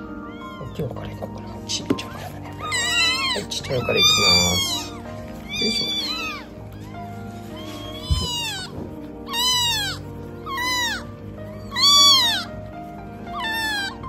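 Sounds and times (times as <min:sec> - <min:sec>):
kitten mewing: 0:00.0 - 0:14.0
quiet background music: 0:00.0 - 0:14.0.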